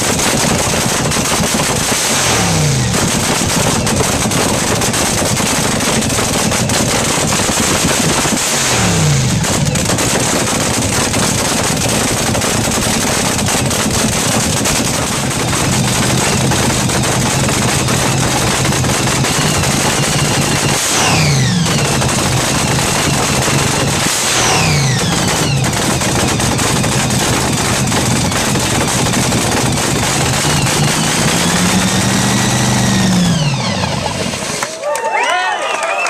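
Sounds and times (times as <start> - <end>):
dragster engine crackling: 0.0 - 34.8.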